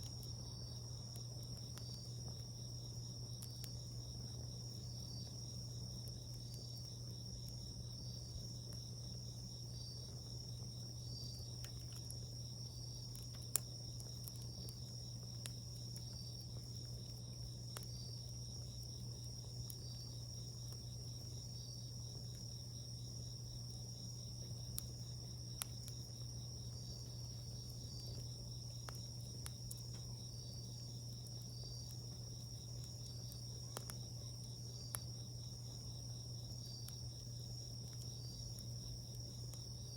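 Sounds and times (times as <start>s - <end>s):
campfire popping: 0.0s - 39.9s
crickets trilling: 0.0s - 39.9s
insect chirping: 0.0s - 39.9s.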